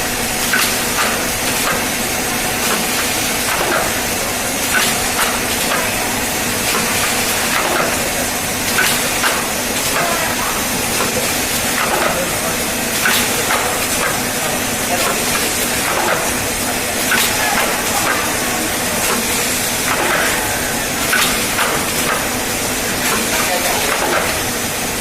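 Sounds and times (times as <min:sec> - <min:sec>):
machine hissing and humming: 0:00.0 - 0:25.0
machine mechanism clacks: 0:00.2 - 0:25.0.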